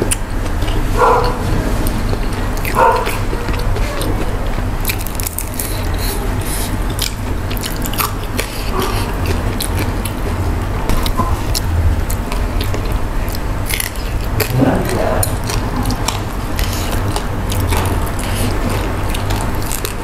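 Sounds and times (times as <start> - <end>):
chewing crisp fried fish: 0.0 - 20.0.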